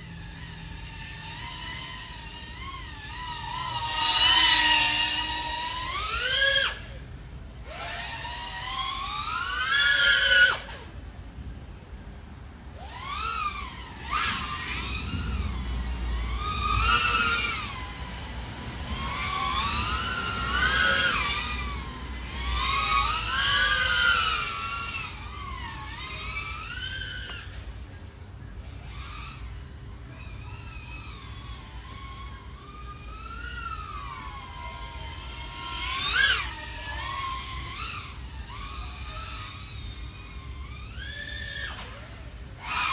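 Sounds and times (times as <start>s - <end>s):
drone motor whine: 0.0s - 42.9s.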